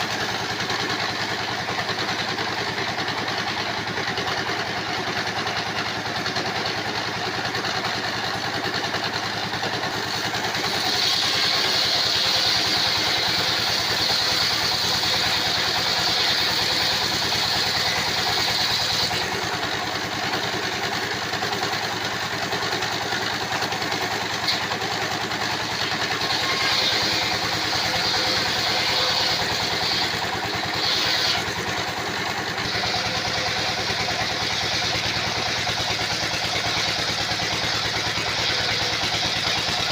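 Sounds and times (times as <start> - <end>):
circular saw running: 0.0 - 39.9
saw blade whining through timber: 0.0 - 39.9.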